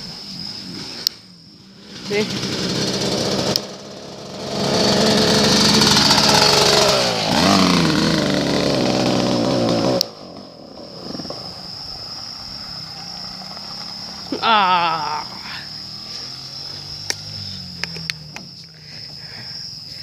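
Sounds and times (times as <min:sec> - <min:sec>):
dirt bike engine revving: 0:00.7 - 0:11.8, 0:12.5 - 0:18.6.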